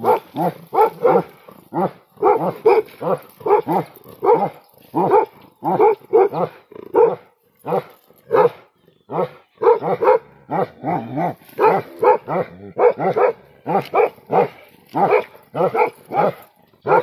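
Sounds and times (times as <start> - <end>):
dogs barking rapidly: 0.0 - 17.0.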